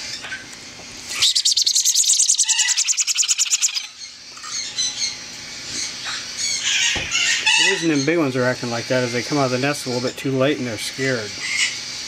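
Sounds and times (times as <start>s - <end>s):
parrot chicks begging calls: 1.1s - 11.8s.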